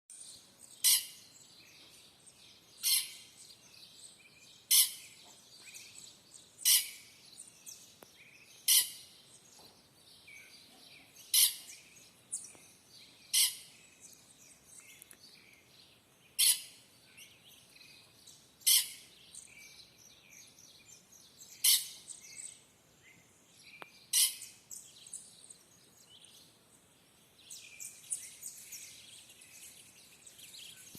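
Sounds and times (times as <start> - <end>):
faint bird chirping: 0.1 - 30.9.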